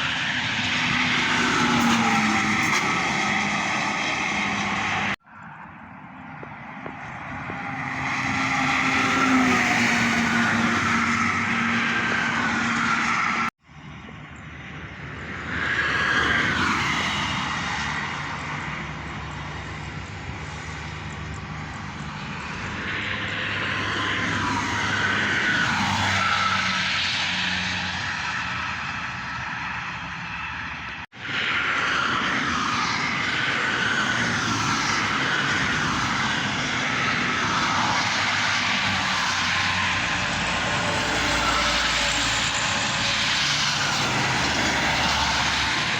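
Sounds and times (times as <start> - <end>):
heavy traffic rushing past: 0.0 - 45.9.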